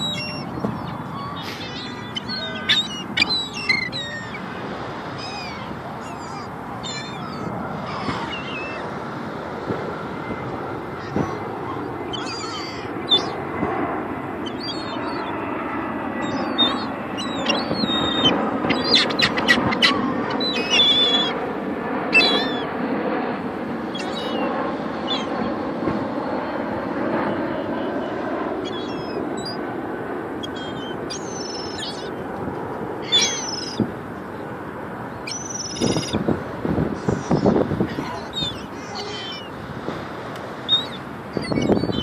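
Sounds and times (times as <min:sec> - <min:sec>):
gulls calling: 0:00.0 - 0:42.0
low background rush: 0:00.0 - 0:42.0.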